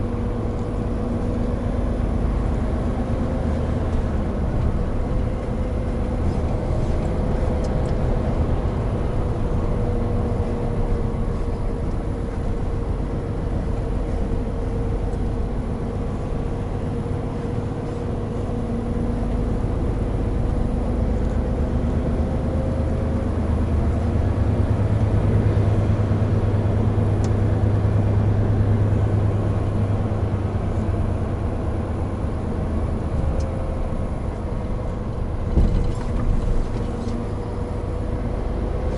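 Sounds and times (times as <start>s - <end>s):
road noise: 0.0s - 38.9s
truck diesel drone: 0.0s - 38.9s.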